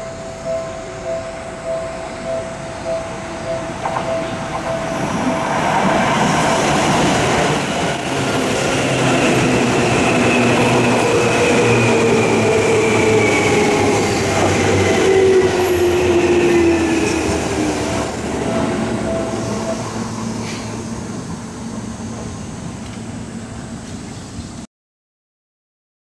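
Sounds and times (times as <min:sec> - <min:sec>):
level-crossing alarm bell: 0:00.0 - 0:20.9
electric train running past: 0:00.0 - 0:24.6.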